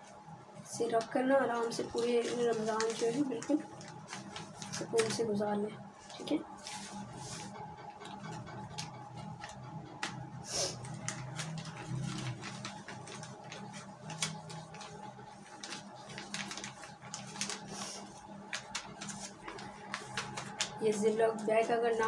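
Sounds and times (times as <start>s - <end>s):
plastic bag crinkling: 1.0s - 5.3s, 8.0s - 22.0s.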